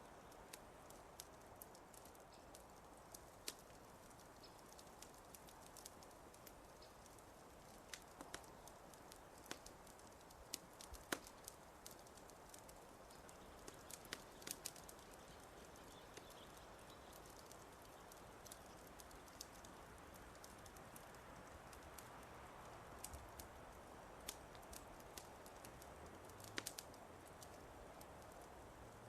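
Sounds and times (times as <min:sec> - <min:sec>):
fireplace fire crackling: 0:00.0 - 0:29.0.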